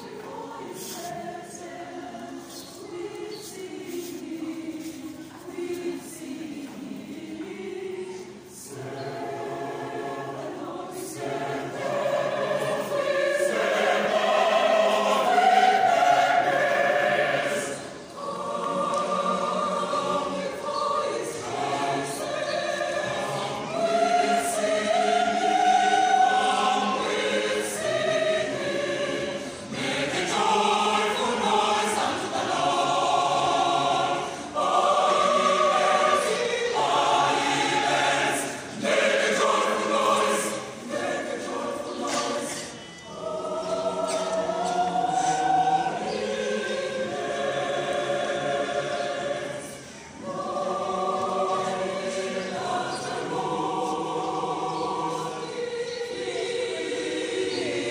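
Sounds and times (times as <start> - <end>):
mixed choir singing: 0.0 - 57.9.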